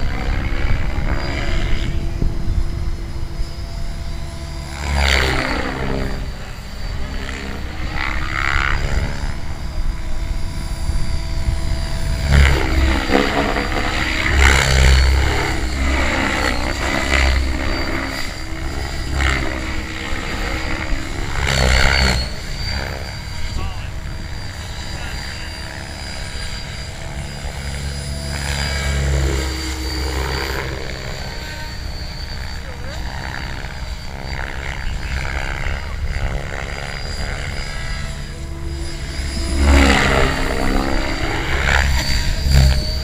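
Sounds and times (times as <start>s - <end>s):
model helicopter motor whine: 0.0s - 43.0s.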